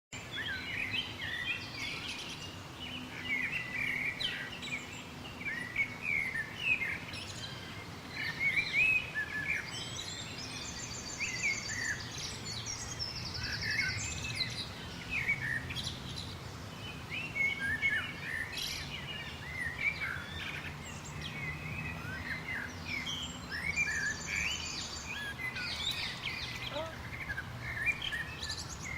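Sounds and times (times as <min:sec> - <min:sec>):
birds chirping and singing: 0:00.2 - 0:28.9.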